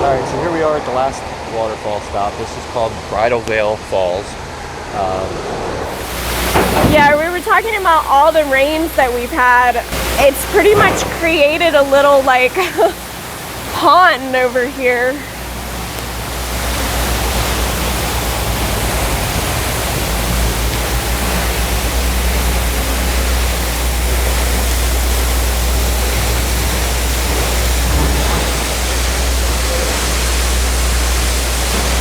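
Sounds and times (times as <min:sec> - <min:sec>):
waterfall rushing and rumbling: 0:05.8 - 0:32.0.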